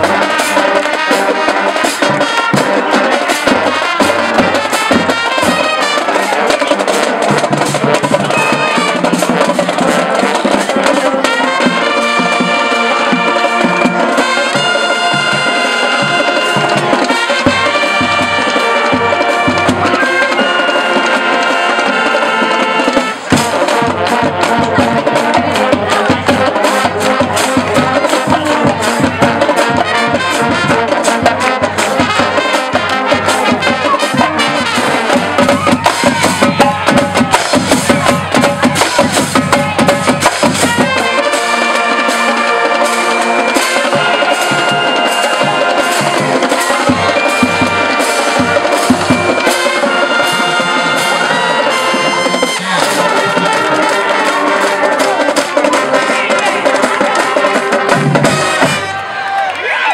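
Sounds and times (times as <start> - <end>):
brass holding chords: 0.0 - 59.2
marching drums: 0.0 - 59.5.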